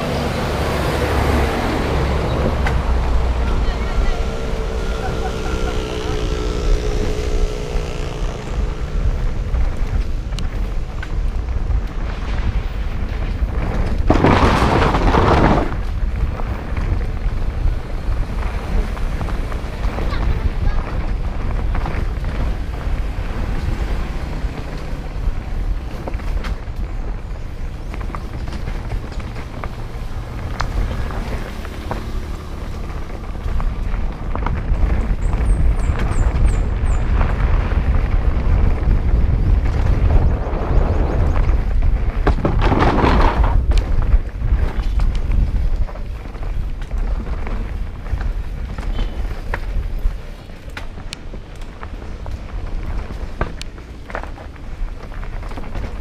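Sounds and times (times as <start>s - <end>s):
bike rumble and rattle: 0.0s - 56.0s
loud rush of noise: 0.0s - 56.0s
wind buffeting microphone: 0.0s - 56.0s
tyres rolling over loose stones: 1.0s - 56.0s.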